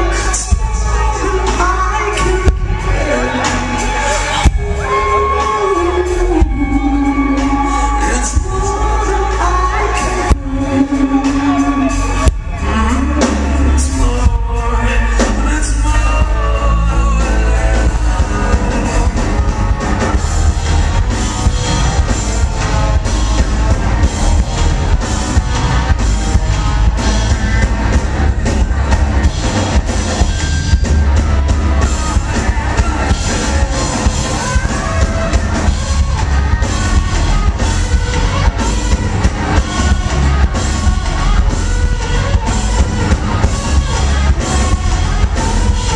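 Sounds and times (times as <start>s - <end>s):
drum kit: 0.0s - 45.9s
electric guitar: 0.0s - 45.9s
person singing lead vocal: 0.0s - 45.9s.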